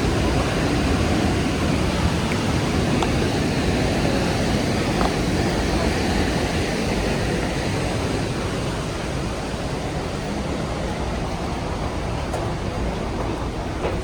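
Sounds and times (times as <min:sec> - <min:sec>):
waterfall roaring: 0:00.0 - 0:12.7.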